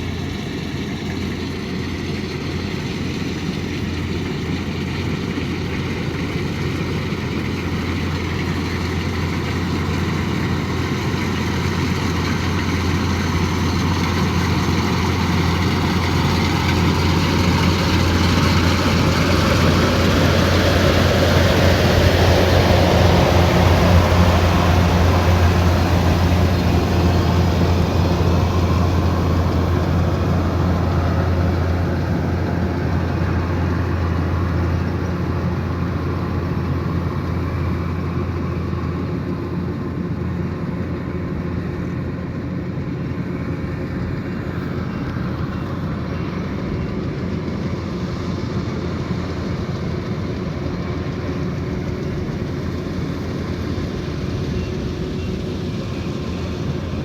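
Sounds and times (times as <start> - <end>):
diesel engine drone: 0.0 - 57.0
machinery rattling and whirring: 0.0 - 57.0.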